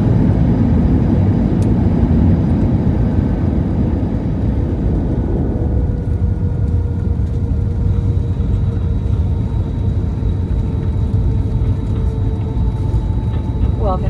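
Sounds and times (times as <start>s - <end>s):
low cabin rumble: 0.0s - 14.0s
faint steady whine: 1.9s - 14.0s.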